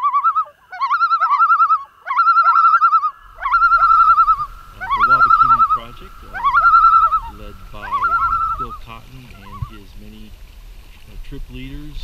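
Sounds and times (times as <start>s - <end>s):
loon tremolo calls: 0.0s - 11.0s.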